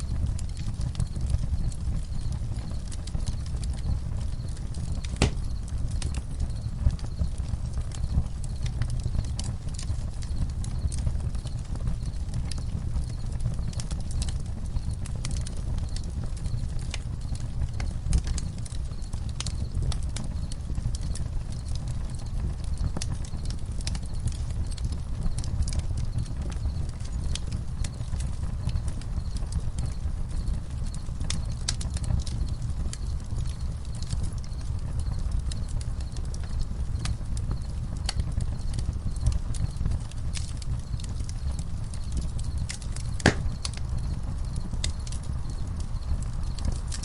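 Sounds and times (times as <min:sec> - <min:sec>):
campfire crackling and popping: 0:00.0 - 0:47.0
faint crickets chirping: 0:00.0 - 0:47.0.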